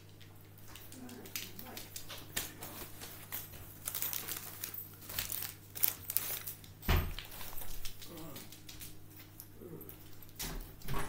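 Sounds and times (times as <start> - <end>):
paper crinkling and rustling: 0.7 - 10.8.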